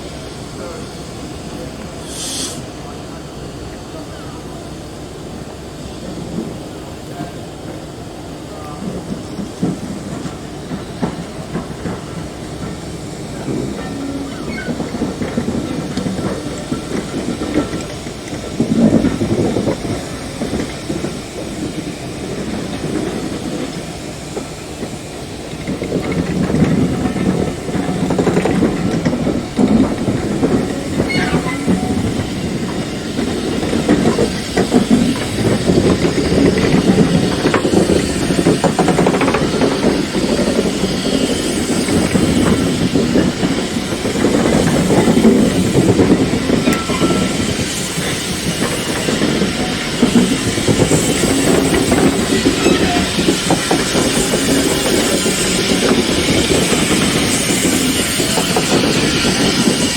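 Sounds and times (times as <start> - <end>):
steam hiss: 0.0 - 59.9
train wheels clattering: 0.0 - 59.9.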